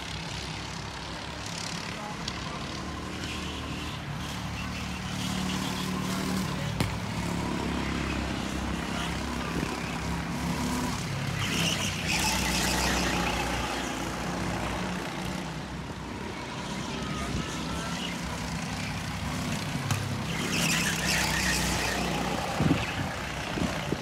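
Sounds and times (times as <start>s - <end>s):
go-kart engines passing: 0.0s - 24.0s.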